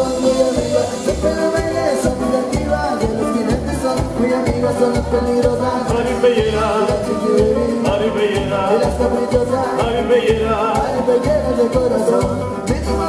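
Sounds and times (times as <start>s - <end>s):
band playing live: 0.0s - 13.0s
pulsing bass beat: 0.0s - 13.0s.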